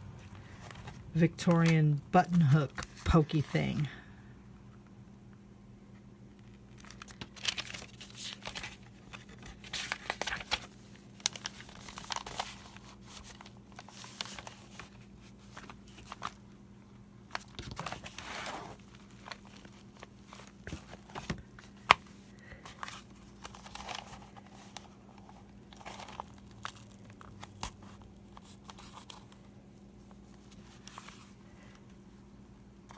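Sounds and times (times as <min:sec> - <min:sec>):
paper rustling and crinkling: 0:00.2 - 0:01.8, 0:02.4 - 0:03.9, 0:06.4 - 0:16.4, 0:17.3 - 0:31.9.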